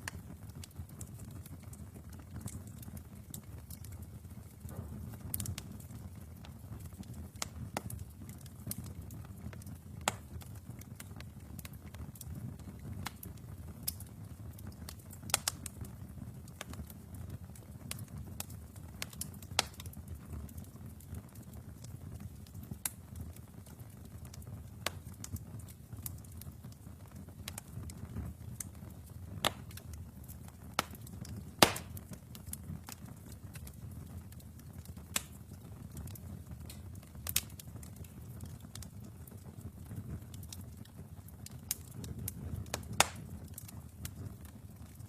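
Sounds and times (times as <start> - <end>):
fire crackling and popping: 0.0 - 45.0
fire rumbling: 0.0 - 45.0.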